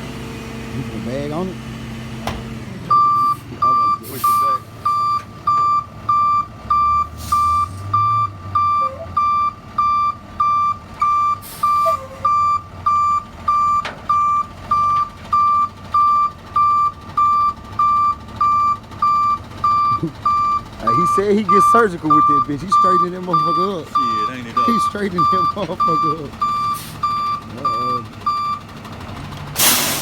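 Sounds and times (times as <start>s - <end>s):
truck engine running low: 0.0s - 30.0s
reversing alarm beeping: 2.9s - 28.6s.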